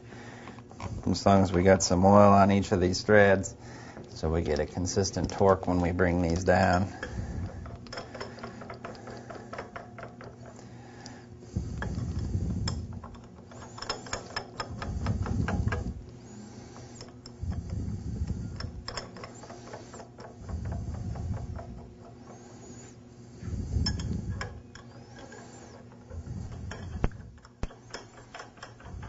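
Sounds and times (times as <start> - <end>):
nuts clicking on threads: 0.5 - 23.0, 23.6 - 29.0.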